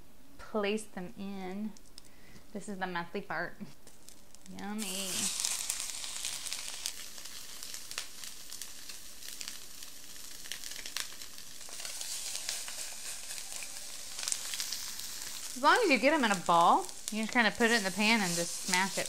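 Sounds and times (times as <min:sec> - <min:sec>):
patties sizzling in skillet: 0:03.7 - 0:19.0.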